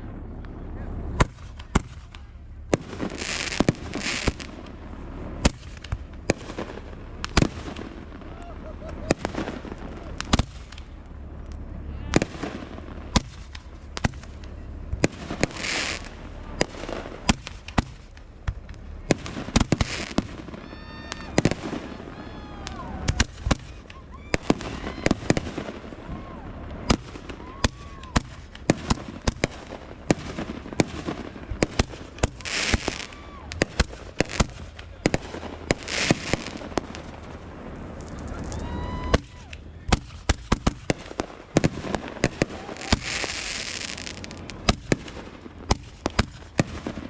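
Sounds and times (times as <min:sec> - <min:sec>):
fireworks bangs and pops: 0:00.0 - 0:47.0
fireworks hissing crackling bursts: 0:00.0 - 0:47.0.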